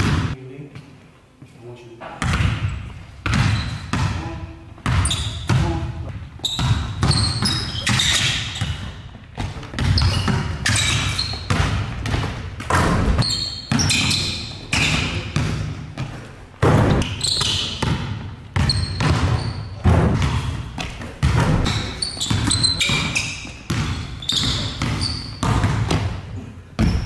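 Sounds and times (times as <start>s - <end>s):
basketball dribbling on gym floor: 0.0s - 0.4s, 2.2s - 27.0s
sneaker squeaks: 2.2s - 16.3s, 16.9s - 27.0s.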